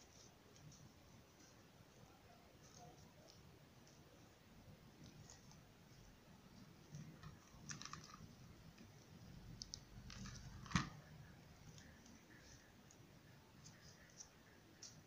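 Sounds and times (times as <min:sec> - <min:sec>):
soft rustles and small clicks: 0:00.0 - 0:15.0.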